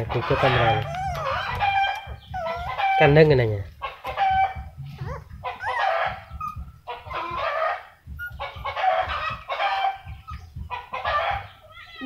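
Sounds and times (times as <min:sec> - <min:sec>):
low rumble: 0:00.0 - 0:12.0
squawking animal calls: 0:00.0 - 0:12.0.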